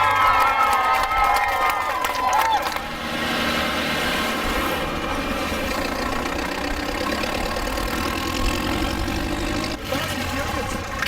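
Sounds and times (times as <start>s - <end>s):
tractor engine idling: 1.7s - 11.0s.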